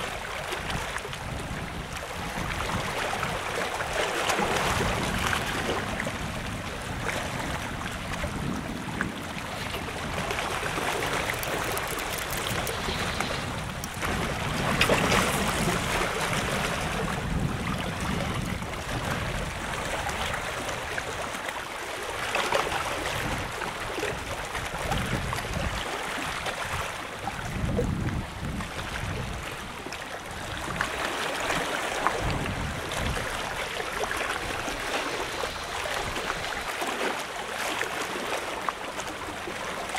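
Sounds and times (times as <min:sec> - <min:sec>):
wind rumbling on microphone: 0:00.0 - 0:21.4, 0:22.0 - 0:37.6
seawater sloshing against a seawall: 0:00.0 - 0:39.9.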